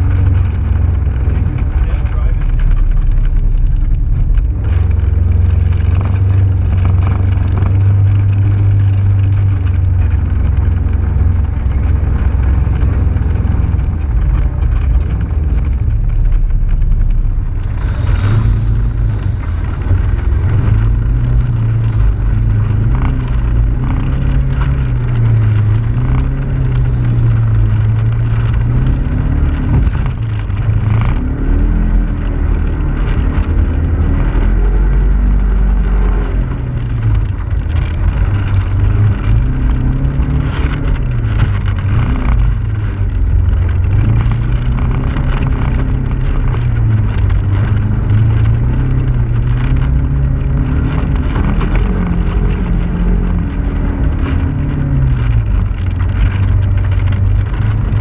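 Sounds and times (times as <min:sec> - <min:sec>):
off-road vehicle engine: 0:00.0 - 0:58.0
tyres on gravel: 0:00.0 - 0:58.0.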